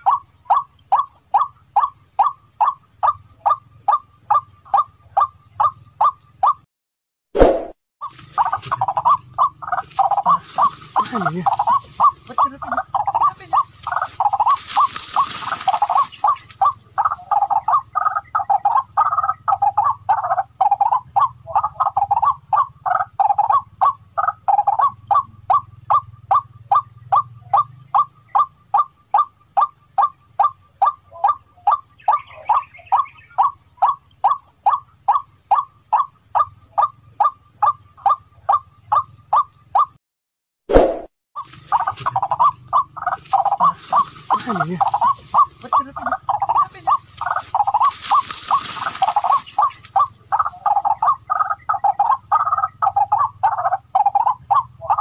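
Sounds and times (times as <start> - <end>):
waterhen calls: 0.0 - 6.6, 7.4 - 39.9, 40.7 - 55.0.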